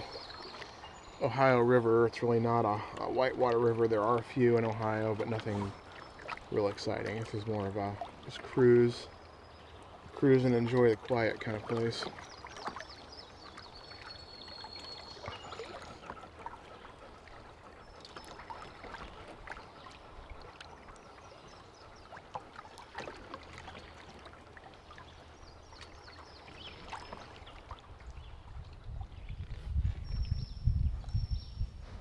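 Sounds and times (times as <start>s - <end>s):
water drips and splashes: 0.0s - 31.2s
water lapping around a canoe: 0.0s - 32.0s.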